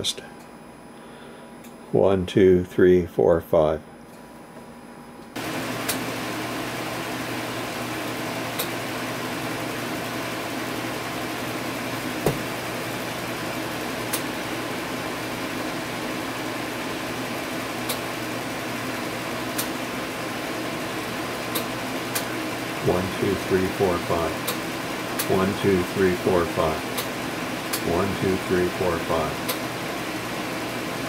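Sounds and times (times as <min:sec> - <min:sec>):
cooling fan noise: 0:00.0 - 0:31.0
low mains hum: 0:00.0 - 0:31.0.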